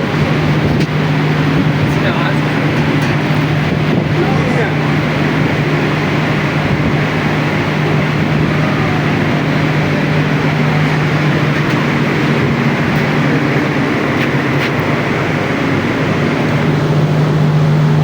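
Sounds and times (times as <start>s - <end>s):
air conditioner compressor running: 0.0s - 18.0s.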